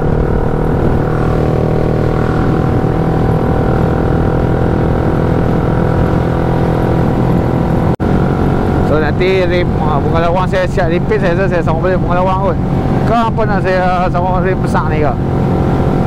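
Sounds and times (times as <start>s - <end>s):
motorcycle engine cruising steadily: 0.0s - 16.0s.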